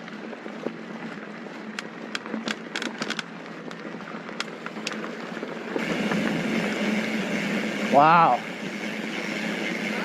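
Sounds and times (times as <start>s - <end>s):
bike tyres humming on dirt: 0.0s - 10.0s
gravel clicks and bike rattles: 0.0s - 10.0s.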